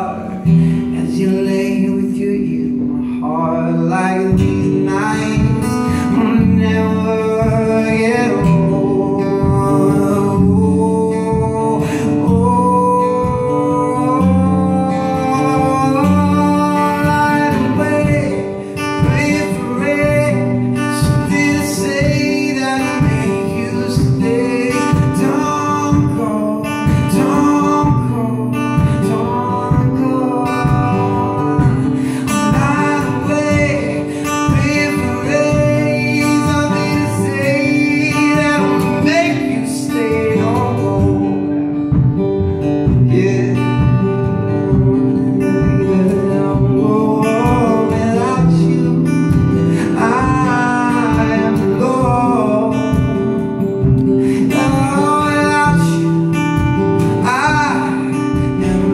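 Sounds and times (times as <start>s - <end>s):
acoustic guitar: 0.0s - 58.9s
man singing: 0.0s - 58.9s.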